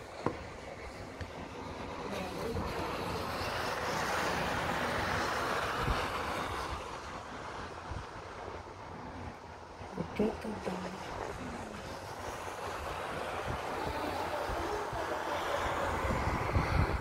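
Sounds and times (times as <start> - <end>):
snowstorm wind gusting: 0.0 - 17.0.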